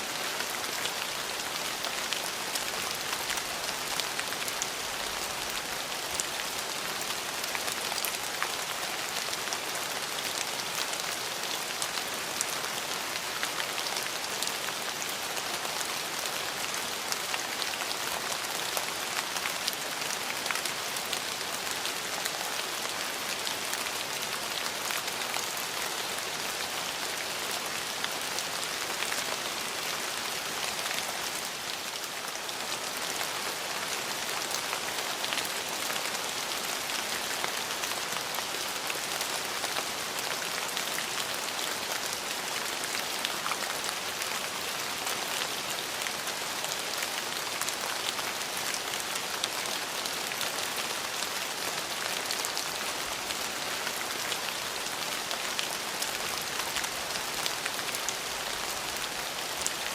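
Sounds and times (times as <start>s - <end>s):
steady rain on hard surfaces: 0.0s - 59.9s.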